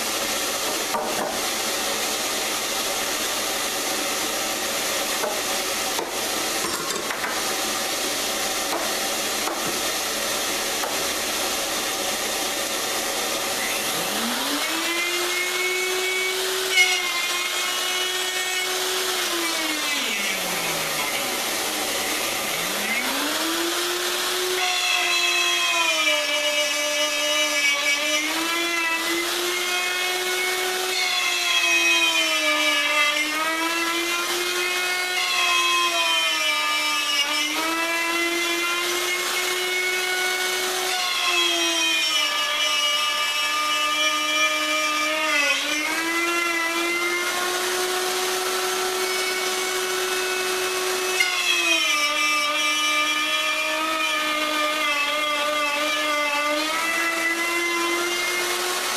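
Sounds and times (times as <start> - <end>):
wood router whine: 0.0 - 58.9.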